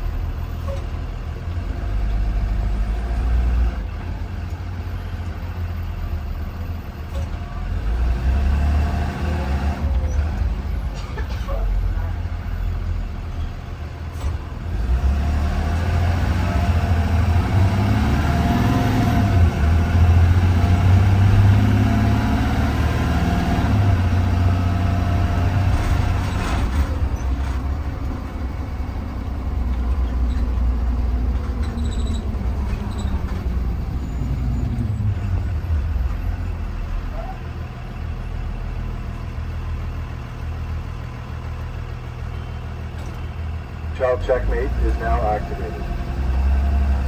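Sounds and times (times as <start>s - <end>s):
bus engine accelerating and slowing: 0.0s - 47.0s.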